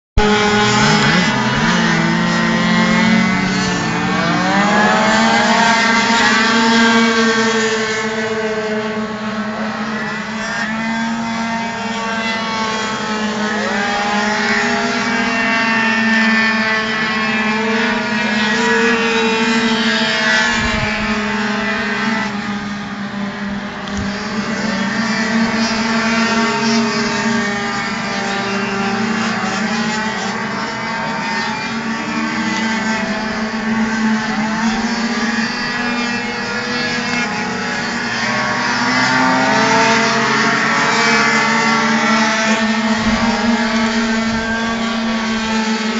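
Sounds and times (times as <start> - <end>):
low drone: 0.2 - 45.9
racing scooter engines passing: 0.2 - 45.9.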